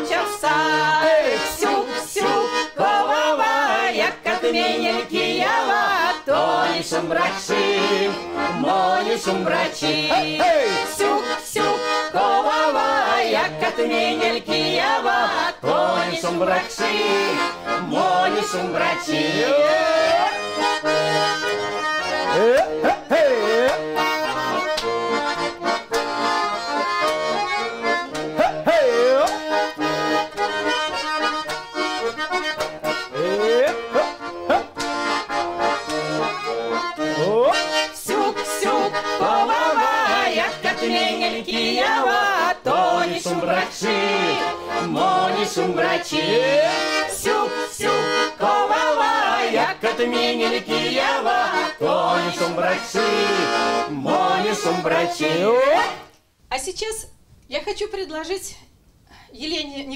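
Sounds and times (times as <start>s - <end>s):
button accordion folk dance tune: 0.0s - 56.1s.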